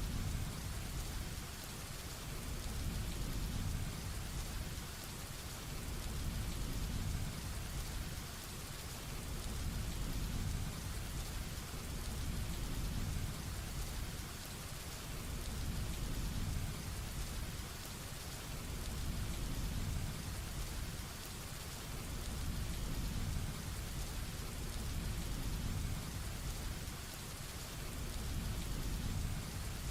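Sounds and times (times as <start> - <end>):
heavy rain falling: 0.0 - 29.9.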